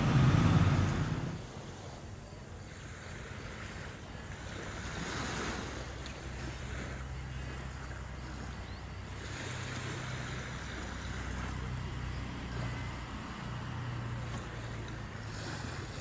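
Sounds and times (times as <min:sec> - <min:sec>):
small waves lapping: 0:00.0 - 0:16.0
wind hiss: 0:00.0 - 0:16.0.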